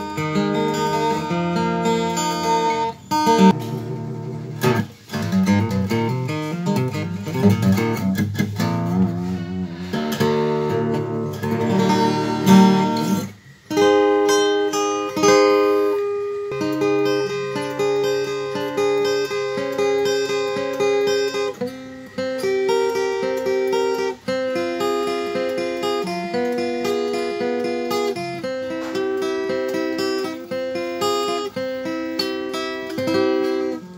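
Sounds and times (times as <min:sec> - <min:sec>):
fingerstyle acoustic guitar: 0:00.0 - 0:33.9.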